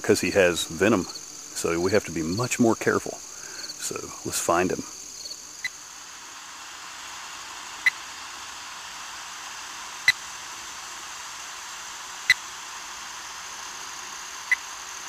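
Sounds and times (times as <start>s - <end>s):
receiver static hiss: 0.0s - 15.0s.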